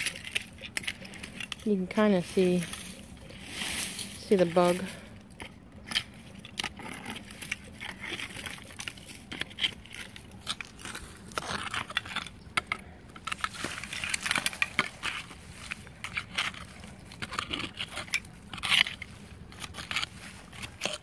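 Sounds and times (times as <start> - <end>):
digging tool scraping dirt and leaves: 0.0 - 21.0.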